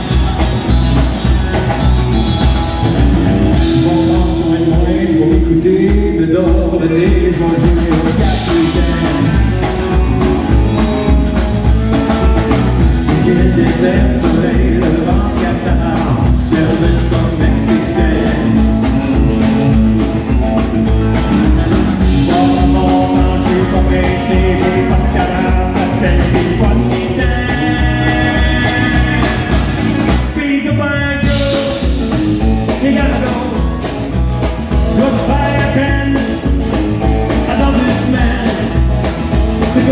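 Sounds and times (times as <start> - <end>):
country band playing: 0.0 - 39.9
man singing: 3.5 - 11.1, 12.4 - 20.3, 21.1 - 39.9.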